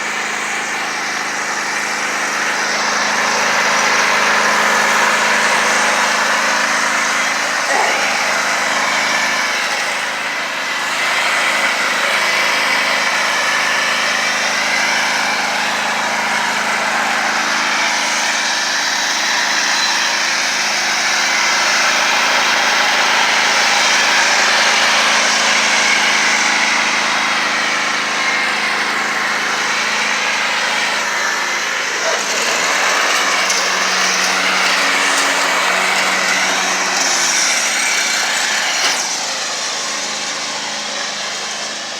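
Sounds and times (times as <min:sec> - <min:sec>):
riding lawnmower engine: 0:00.0 - 0:41.9.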